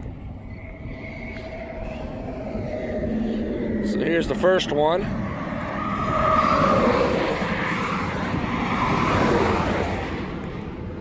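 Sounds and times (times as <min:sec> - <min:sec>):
highway traffic passing: 0:00.0 - 0:11.0.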